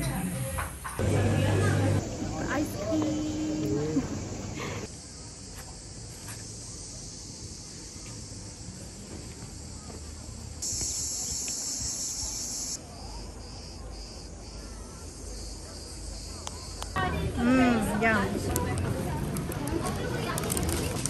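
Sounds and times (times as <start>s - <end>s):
cicadas buzzing: 1.4s - 18.7s.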